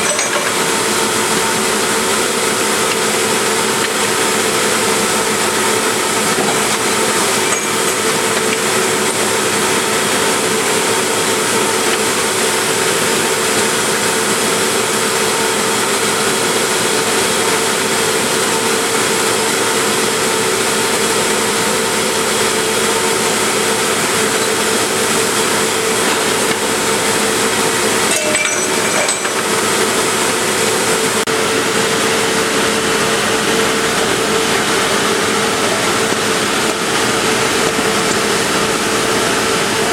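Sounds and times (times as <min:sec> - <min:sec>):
bench grinder grinding: 0:00.0 - 0:14.4, 0:20.4 - 0:39.9.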